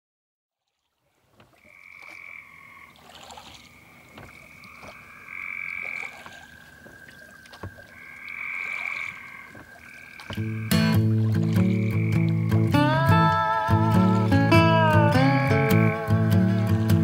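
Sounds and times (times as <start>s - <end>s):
frogs croaking in trills: 1.1s - 17.0s.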